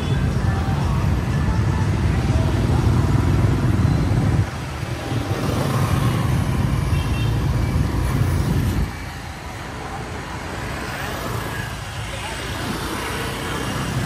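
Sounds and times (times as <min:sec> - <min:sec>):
motorbike traffic rumble: 0:00.0 - 0:14.0.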